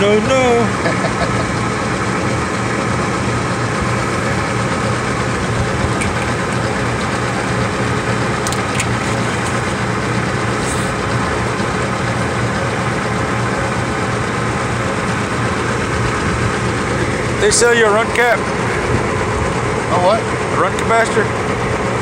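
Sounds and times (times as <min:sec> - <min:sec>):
loud machinery hum: 0:00.0 - 0:22.0.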